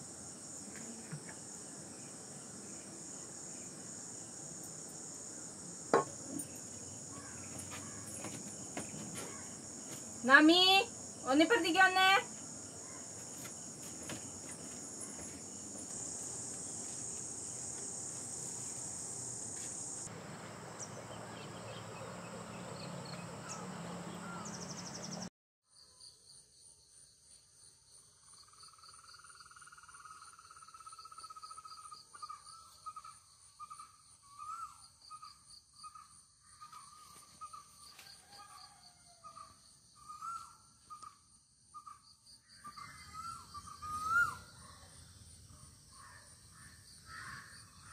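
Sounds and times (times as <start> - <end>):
crickets chirring: 0.0 - 25.2, 25.8 - 47.9
pulsing insect song: 0.0 - 47.9.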